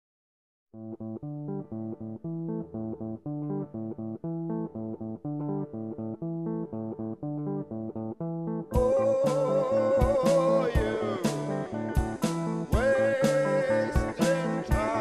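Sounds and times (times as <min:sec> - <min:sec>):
bass: 0:00.8 - 0:15.0
plucked guitar melody: 0:00.8 - 0:15.0.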